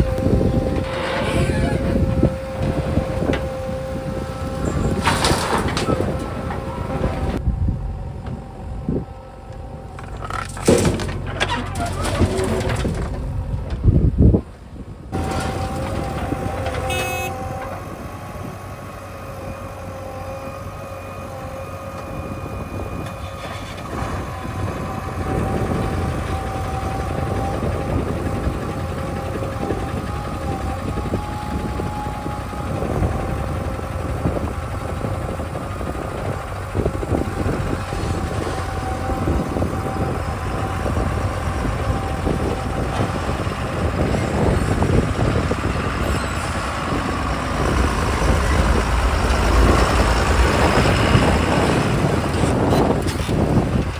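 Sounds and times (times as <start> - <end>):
diesel engine low rumble: 0.0 - 53.9.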